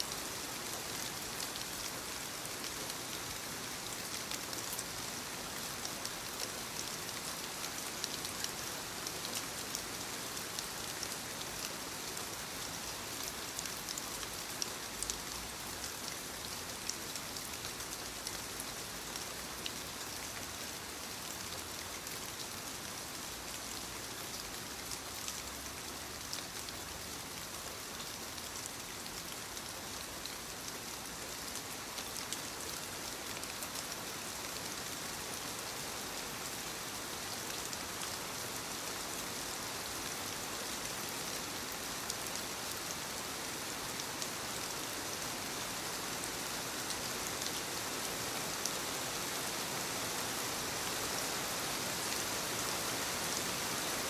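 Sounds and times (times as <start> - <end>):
light rain falling on leaves: 0.0 - 54.0.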